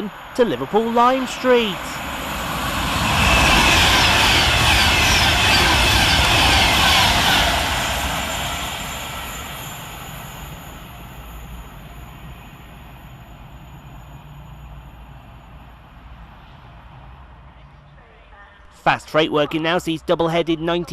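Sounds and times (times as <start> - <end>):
electric train passing at speed: 0.0 - 18.7.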